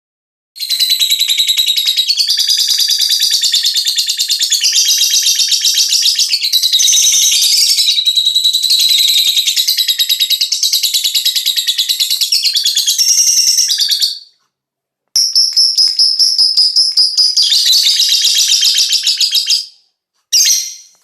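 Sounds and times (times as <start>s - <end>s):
lovebird high-pitched chatter: 0.6s - 14.3s, 15.2s - 19.7s, 20.3s - 21.0s.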